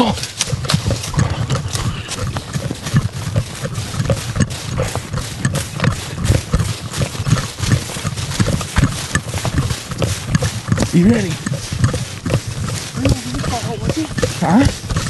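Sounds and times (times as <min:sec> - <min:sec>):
running footsteps through brush: 0:00.0 - 0:15.0.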